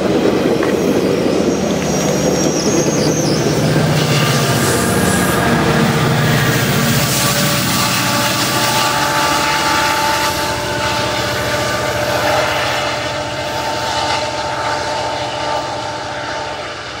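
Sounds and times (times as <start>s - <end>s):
diesel locomotive engine: 0.0s - 17.0s
steady high whine: 0.0s - 17.0s.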